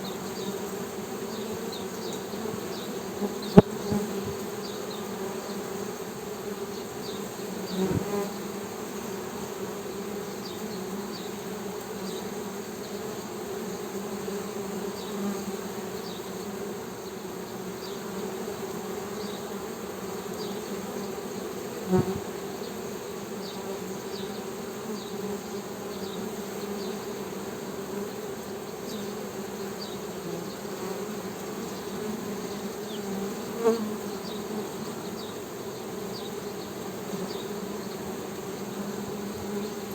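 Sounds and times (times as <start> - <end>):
honey bees humming: 0.0 - 39.9.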